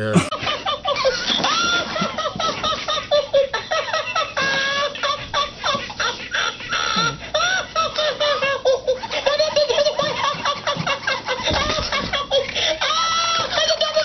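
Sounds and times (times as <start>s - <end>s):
toy laughing in squeaky voice: 0.0s - 14.0s.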